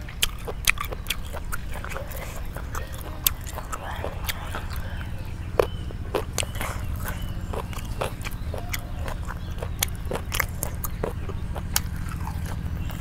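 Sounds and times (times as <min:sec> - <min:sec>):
crunchy vegetables being chewed: 0:00.0 - 0:13.0
steady low hum: 0:00.0 - 0:13.0.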